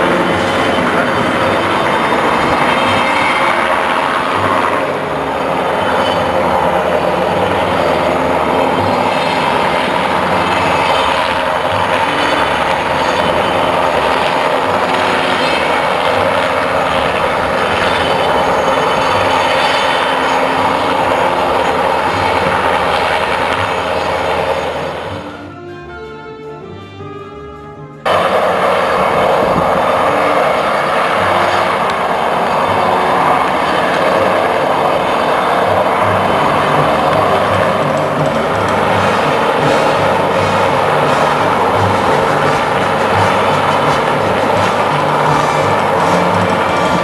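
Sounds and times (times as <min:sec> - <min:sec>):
helicopter hovering: 0:00.0 - 0:26.1, 0:28.0 - 0:47.0.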